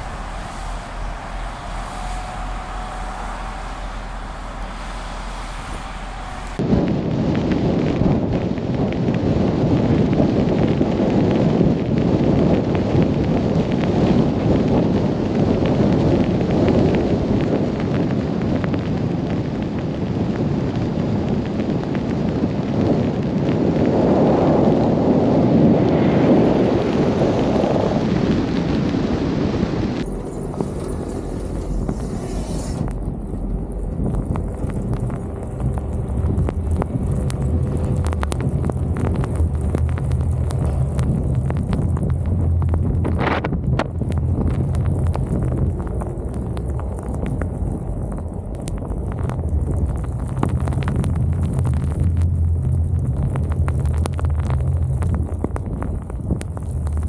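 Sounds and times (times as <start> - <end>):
strong wind buffeting microphone: 0.0 - 57.0.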